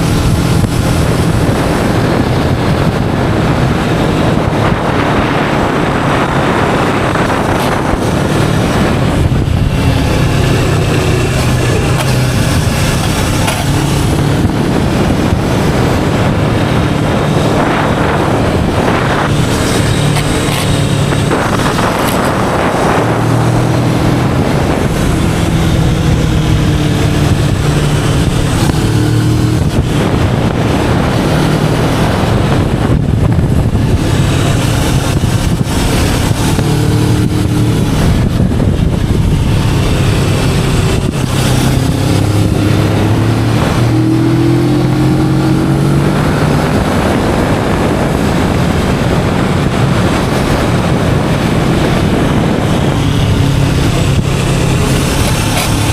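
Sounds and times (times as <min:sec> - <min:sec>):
motorcycle engine revving: 0:00.0 - 0:55.9
wind buffeting microphone: 0:00.0 - 0:55.9.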